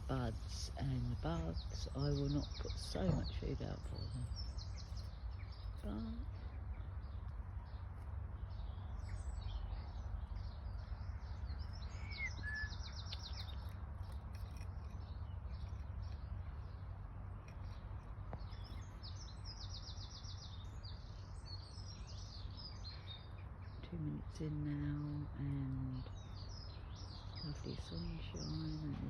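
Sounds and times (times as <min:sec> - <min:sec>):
songbirds singing and chirping: 0:00.0 - 0:29.0.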